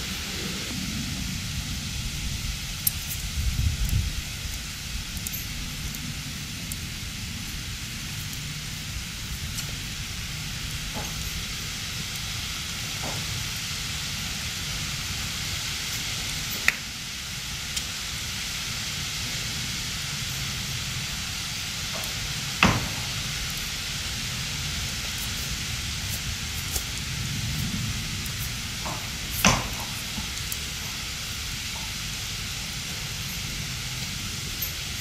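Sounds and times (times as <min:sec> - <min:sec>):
outdoor background hiss: 0:00.0 - 0:35.0.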